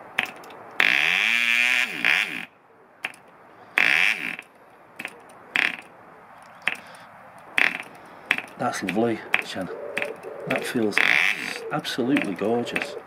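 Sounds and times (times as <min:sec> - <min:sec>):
propeller flick clicks: 0:00.0 - 0:00.9, 0:03.0 - 0:13.0.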